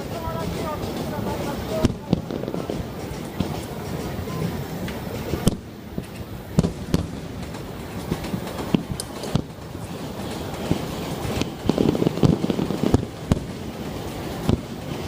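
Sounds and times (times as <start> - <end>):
fireworks bangs: 0.0 - 15.0
fireworks crackle: 0.0 - 15.0.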